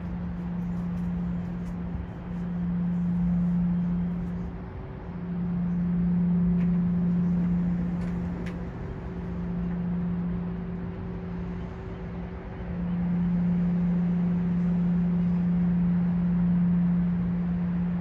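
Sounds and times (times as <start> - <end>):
higher hum: 0.0 - 18.0
steady low hum: 0.0 - 18.0
traffic noise: 0.0 - 18.0.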